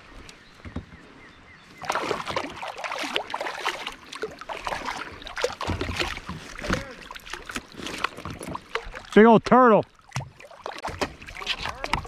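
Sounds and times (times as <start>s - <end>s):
turtle thrashing and splashing water: 1.8s - 12.0s.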